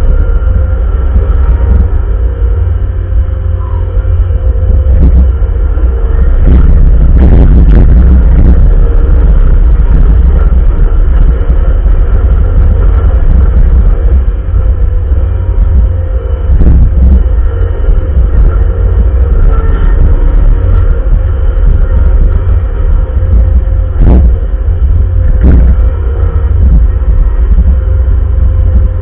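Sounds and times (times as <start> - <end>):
loader engine rumbling: 0.0 - 29.0.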